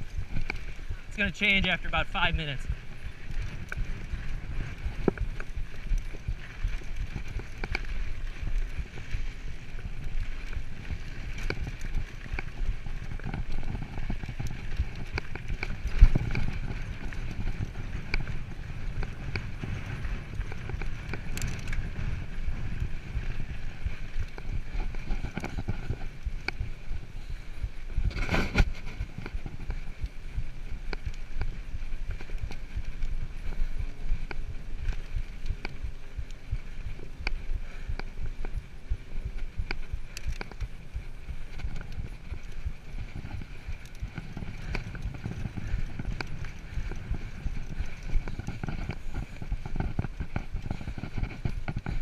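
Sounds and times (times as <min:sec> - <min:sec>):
bike rattling over bumps: 0:00.0 - 0:52.0
bike tyres rumbling on dirt: 0:00.0 - 0:52.0.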